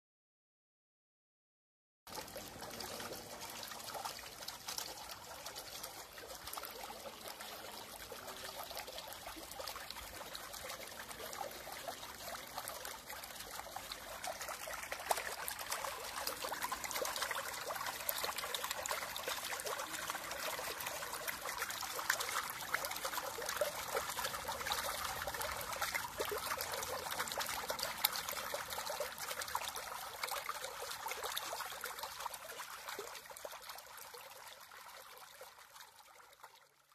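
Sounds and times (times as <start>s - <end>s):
water trickling and splashing: 2.1s - 36.9s.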